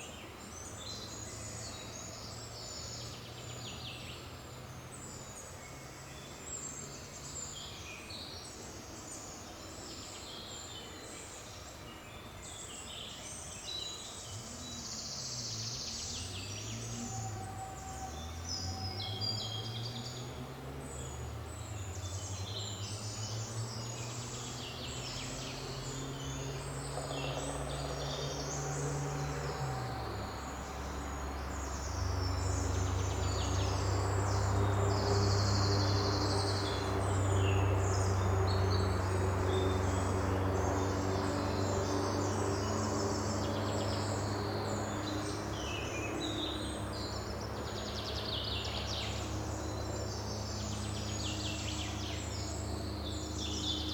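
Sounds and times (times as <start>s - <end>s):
songbirds chirping and singing: 0.0s - 53.9s.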